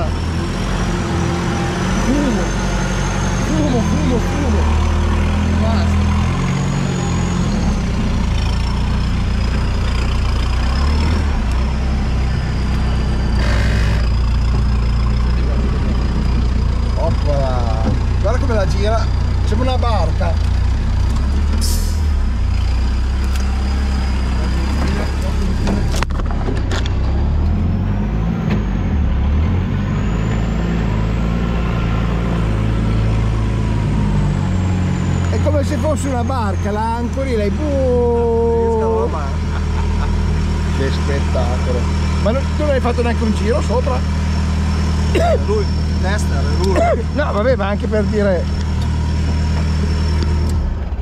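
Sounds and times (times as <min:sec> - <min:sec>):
engine running at low revs: 0:00.0 - 0:51.0.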